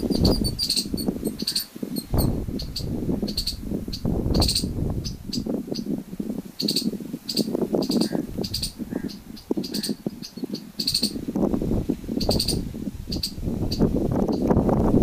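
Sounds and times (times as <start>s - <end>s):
small bird chirping: 0.0s - 6.0s, 6.6s - 11.2s, 12.2s - 14.5s
wind gusting across microphone: 0.0s - 15.0s.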